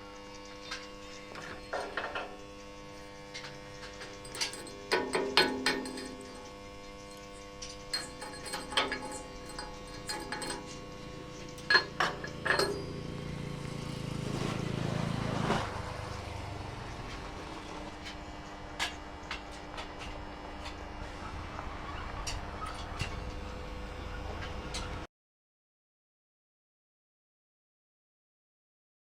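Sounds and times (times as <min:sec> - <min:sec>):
steady machine hum: 0:00.0 - 0:25.1.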